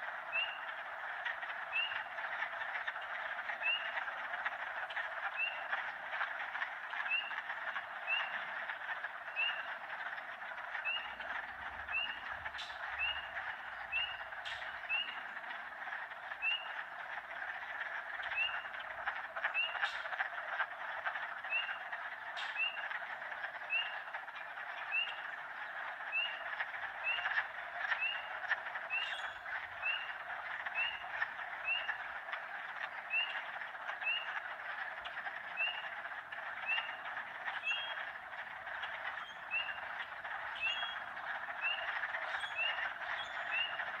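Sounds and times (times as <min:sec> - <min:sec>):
frog chorus: 0:00.0 - 0:44.0.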